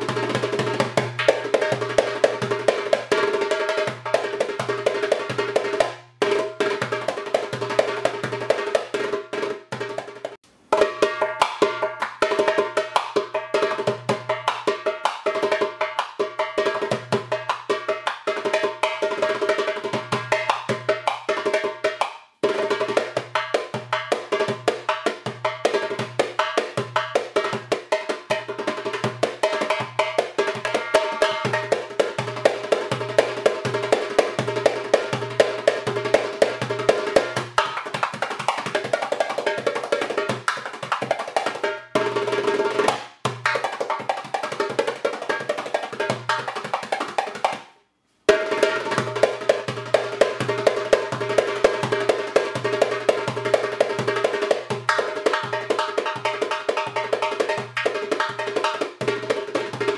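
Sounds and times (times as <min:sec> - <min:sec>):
instrumental music with fast percussion: 0:00.0 - 0:59.9.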